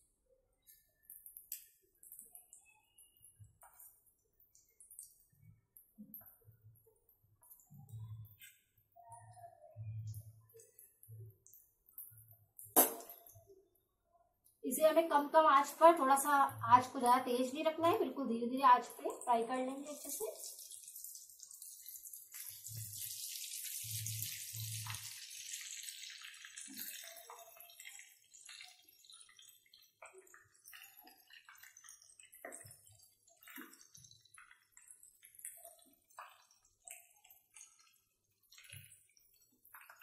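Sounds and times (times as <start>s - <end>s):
food deep-frying in oil: 0.0s - 40.0s.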